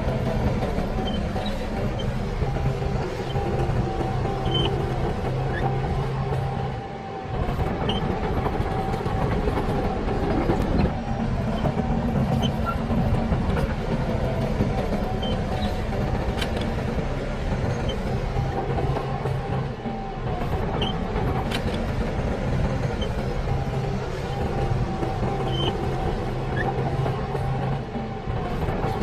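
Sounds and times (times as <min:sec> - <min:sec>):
heavy diesel engine rumbling: 0:00.0 - 0:29.0.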